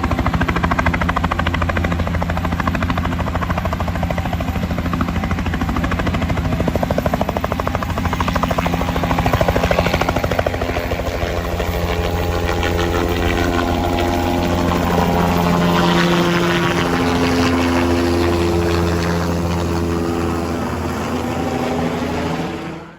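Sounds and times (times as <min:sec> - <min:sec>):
helicopter engine hum: 0:00.0 - 0:22.9
helicopter rotor chopping: 0:00.0 - 0:22.9.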